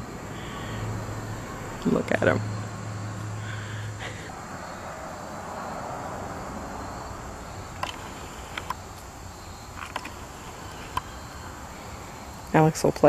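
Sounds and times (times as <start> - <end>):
insects: 0.0 - 13.0.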